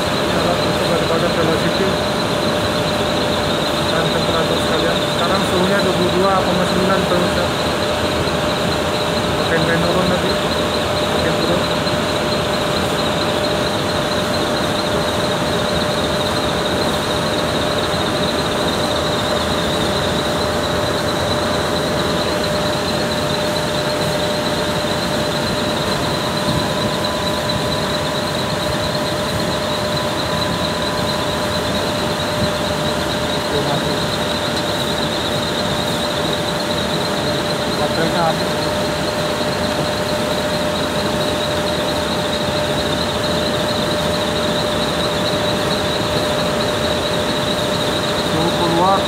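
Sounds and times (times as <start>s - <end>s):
air conditioner blower rushing: 0.0s - 49.0s
compressor high whine: 0.0s - 49.0s.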